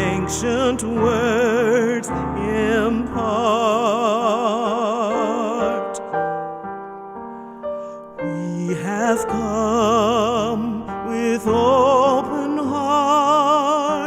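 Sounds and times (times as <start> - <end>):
person singing with vibrato: 0.0 - 6.3, 8.2 - 14.0.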